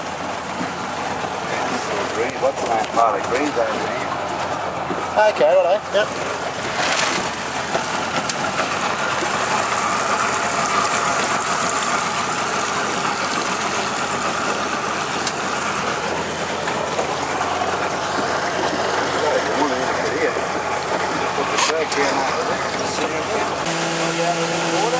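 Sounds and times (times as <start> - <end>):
boat motor droning: 0.0 - 24.9.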